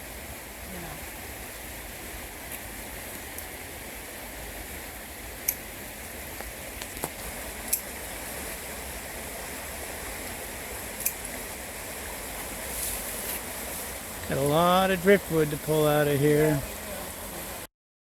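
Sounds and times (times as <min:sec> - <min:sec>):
creek water running: 0:00.0 - 0:17.7.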